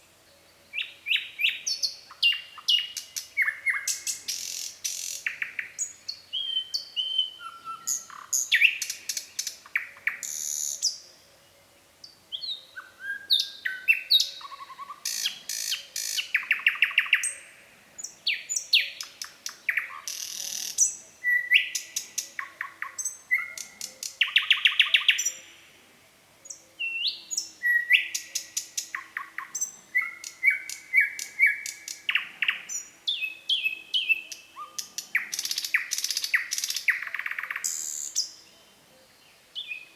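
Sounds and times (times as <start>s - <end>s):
nightingale singing: 0.0s - 25.7s, 26.4s - 39.9s.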